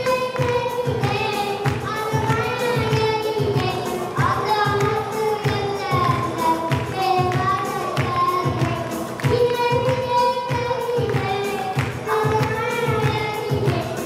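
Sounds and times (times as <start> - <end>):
backing track with steady beat: 0.0 - 14.0
boy singing into a microphone: 0.0 - 14.0.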